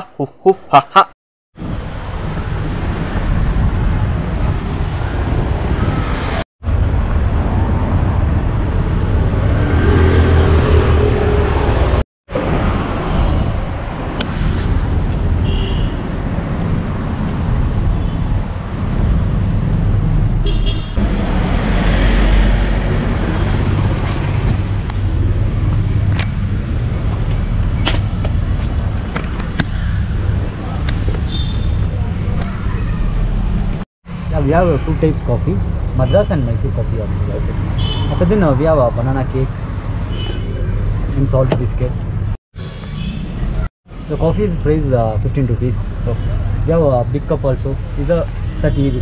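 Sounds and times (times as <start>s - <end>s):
rumble of passing vehicles: 1.6s - 49.0s.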